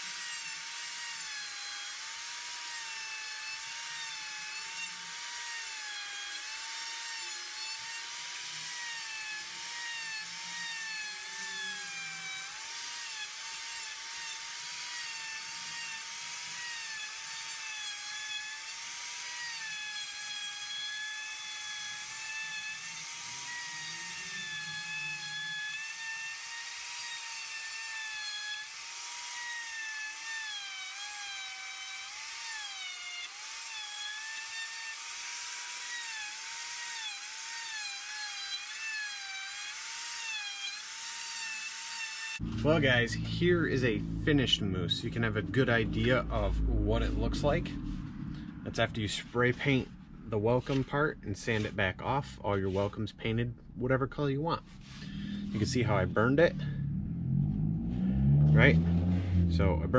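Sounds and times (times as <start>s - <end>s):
die grinder cutting wood: 0.0s - 56.8s.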